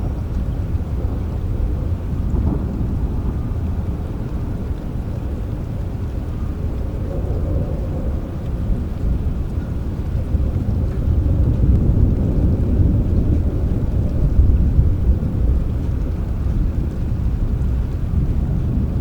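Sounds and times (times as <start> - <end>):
distant thunder rumbling: 0.0 - 19.0
steady rain: 0.0 - 19.0.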